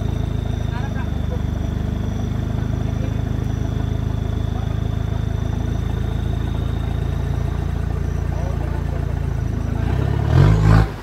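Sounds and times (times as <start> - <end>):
engine idling at low revs: 0.0 - 11.0.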